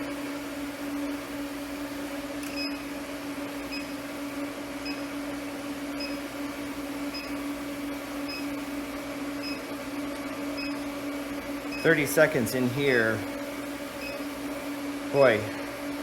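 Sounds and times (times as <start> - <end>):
induction forge humming: 0.0 - 16.0.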